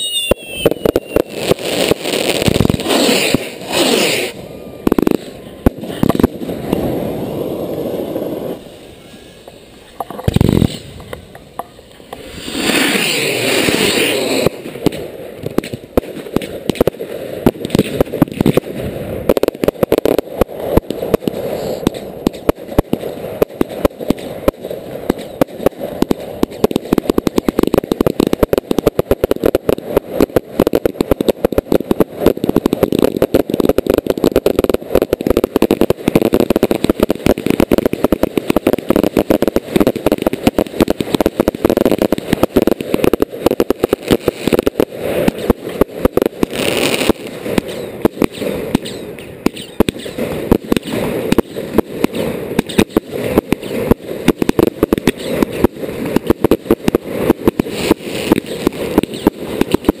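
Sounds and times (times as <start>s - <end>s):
fireworks bangs: 0.0s - 60.0s
fireworks hiss: 0.0s - 60.0s.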